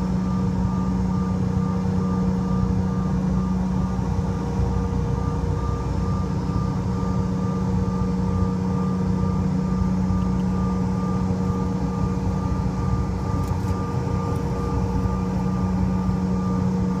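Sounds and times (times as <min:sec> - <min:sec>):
airliner cabin engine hum: 0:00.0 - 0:17.0.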